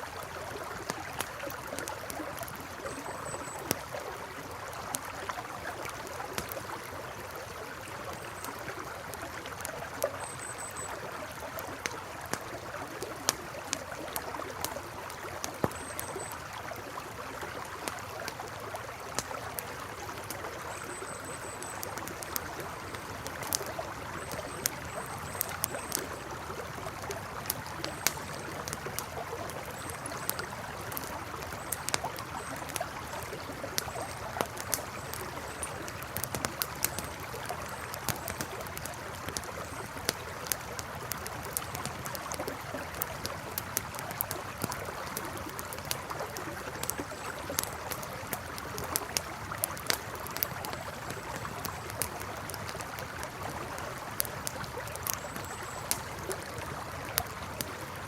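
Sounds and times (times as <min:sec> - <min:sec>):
campfire crackling and popping: 0:00.0 - 0:58.0
river flowing: 0:00.0 - 0:58.0.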